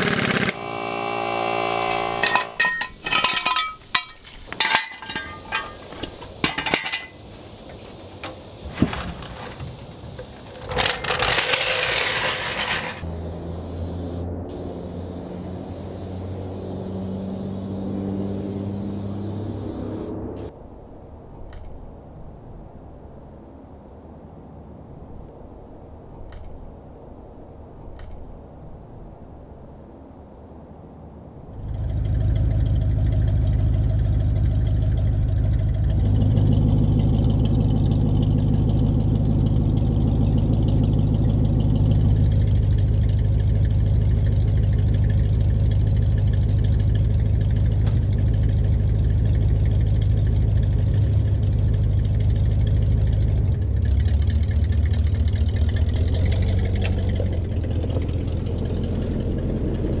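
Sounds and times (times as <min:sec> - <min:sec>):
car engine running: 0:00.0 - 0:20.5, 0:31.6 - 1:00.0.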